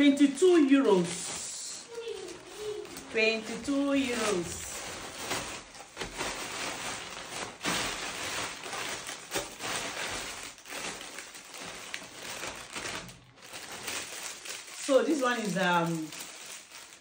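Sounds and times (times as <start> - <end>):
plastic packaging rustling: 0.0 - 17.0.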